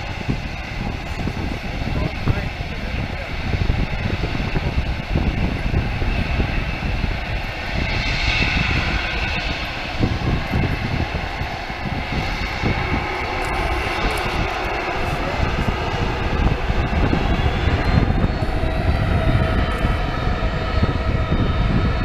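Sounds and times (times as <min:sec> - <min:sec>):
jet engines whining and rumbling: 0:00.0 - 0:22.0
wind buffeting microphone: 0:00.0 - 0:22.0.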